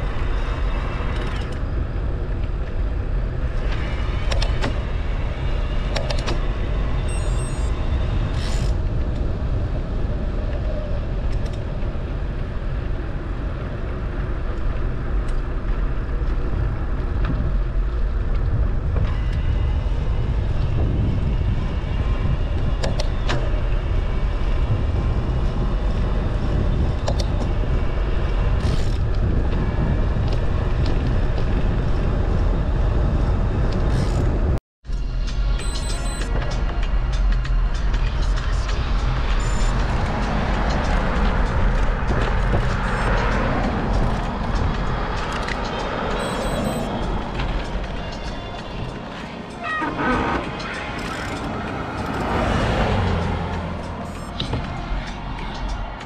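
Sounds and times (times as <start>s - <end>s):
vehicle road and wind rumble: 0.0s - 56.0s.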